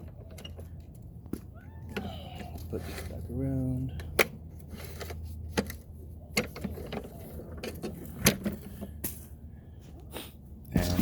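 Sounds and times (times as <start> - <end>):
mower parts clicking and knocking: 0.0 - 9.2.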